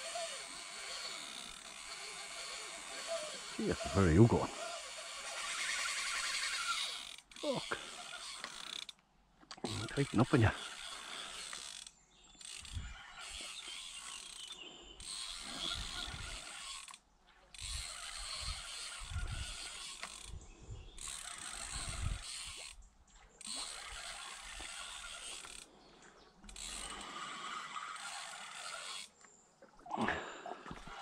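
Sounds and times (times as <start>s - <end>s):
fishing reel ratcheting: 0.0s - 9.0s, 9.6s - 20.4s, 21.0s - 22.8s, 23.4s - 25.7s, 26.4s - 29.2s.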